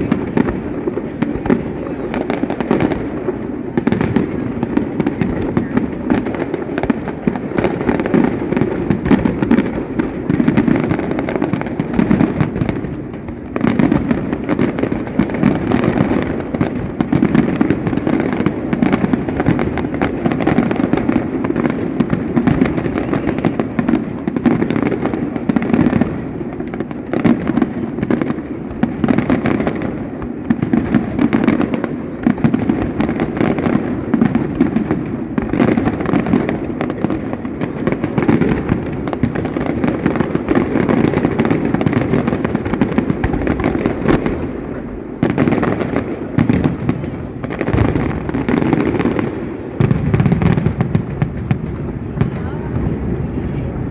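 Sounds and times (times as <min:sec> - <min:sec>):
fireworks bangs and crackling: 0:00.0 - 0:53.9.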